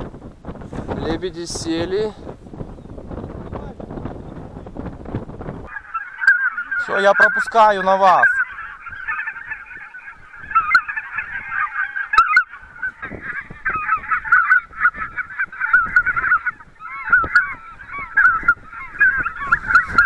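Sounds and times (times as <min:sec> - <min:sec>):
geese calling in flight: 0:00.0 - 0:20.0.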